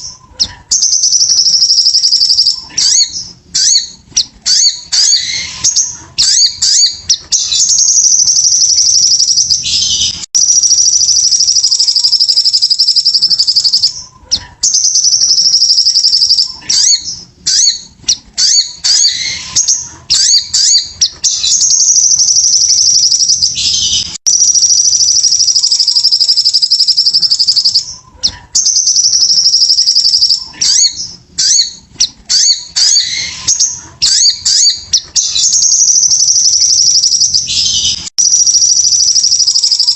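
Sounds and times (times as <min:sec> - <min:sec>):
high-pitched bird trills: 0:00.0 - 0:39.9.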